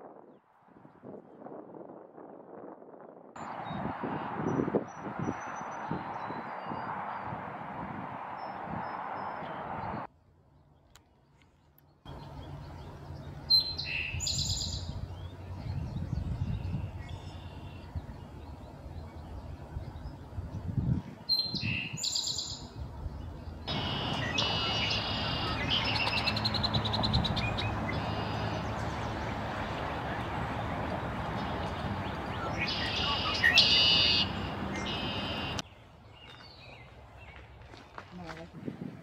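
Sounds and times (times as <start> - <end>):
songbirds singing: 3.4 - 7.4, 8.2 - 38.5.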